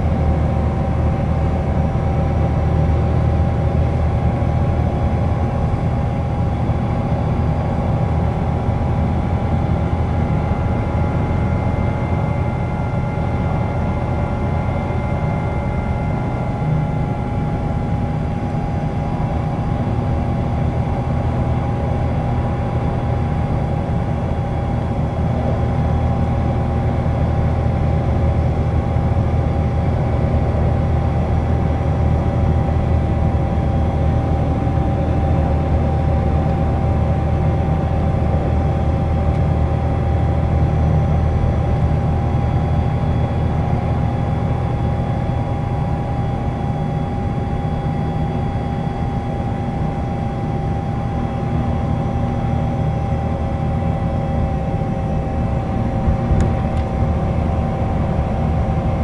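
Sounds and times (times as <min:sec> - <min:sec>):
bus diesel engine drone: 0:00.0 - 0:59.0
steady high whine: 0:00.0 - 0:59.0.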